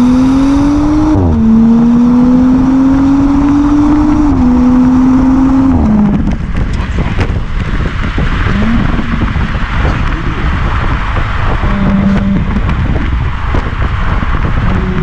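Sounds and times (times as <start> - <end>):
car engine: 0.0 - 15.0
road and wind rush: 0.0 - 15.0.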